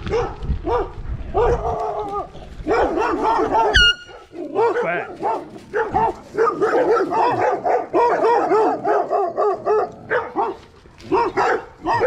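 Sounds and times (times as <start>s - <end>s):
dogs barking rapidly: 0.0s - 12.0s.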